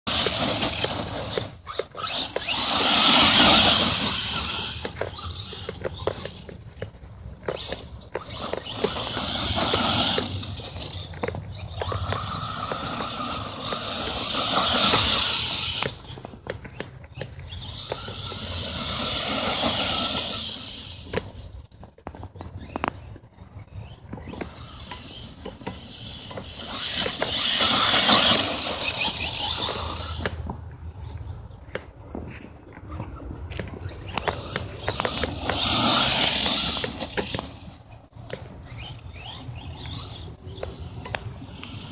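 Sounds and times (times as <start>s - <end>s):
toy truck motor whining: 0.1s - 31.6s, 33.0s - 41.9s.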